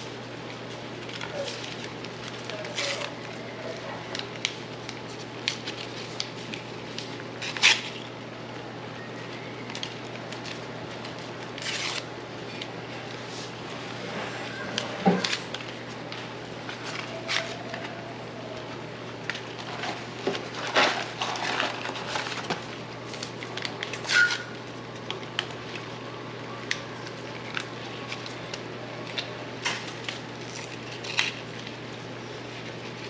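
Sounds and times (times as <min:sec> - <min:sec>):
foil wrappers crinkling: 0:00.0 - 0:13.6, 0:14.8 - 0:33.0.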